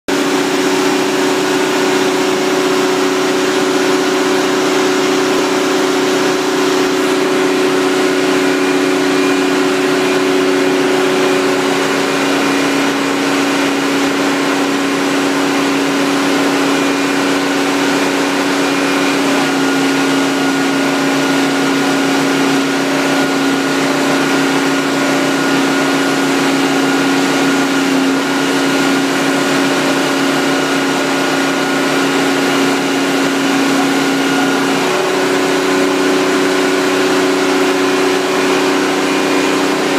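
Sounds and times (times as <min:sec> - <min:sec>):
drilling rig engine hum: 0:00.1 - 0:39.9
water gushing: 0:00.1 - 0:39.9.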